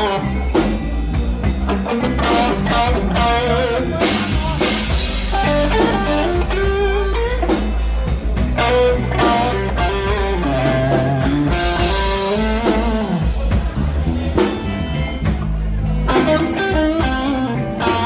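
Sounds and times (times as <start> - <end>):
bass and drums: 0.0 - 18.0
electric guitar lead: 0.0 - 18.0.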